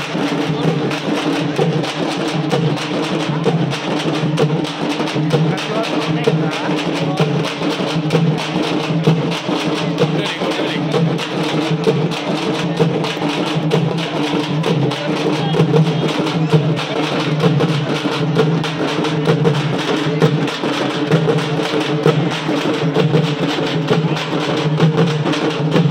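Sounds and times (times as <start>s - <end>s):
frame drums beaten with sticks: 0.0s - 25.9s.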